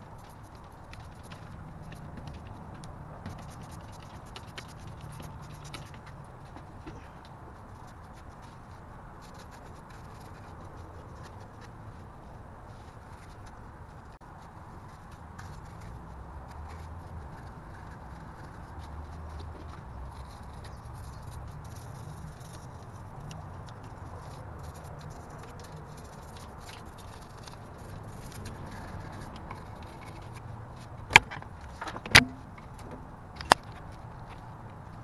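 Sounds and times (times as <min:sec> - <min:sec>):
brush scrubbing engine parts: 0:00.0 - 0:34.0.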